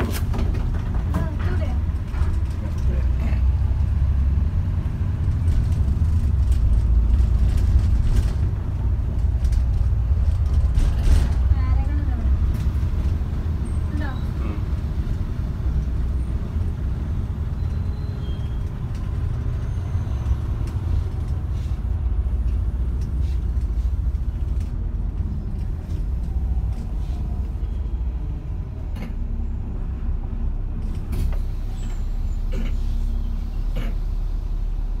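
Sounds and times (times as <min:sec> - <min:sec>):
bus engine and road noise: 0:00.0 - 0:35.0.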